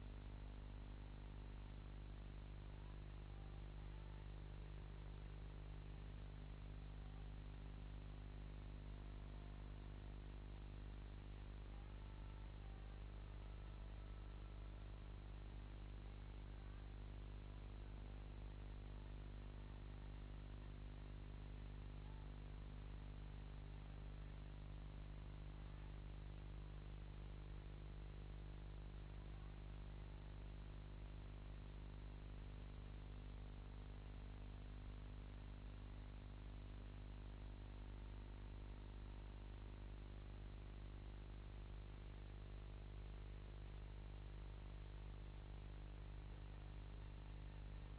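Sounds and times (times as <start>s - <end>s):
faint high whine: 0.0s - 47.9s.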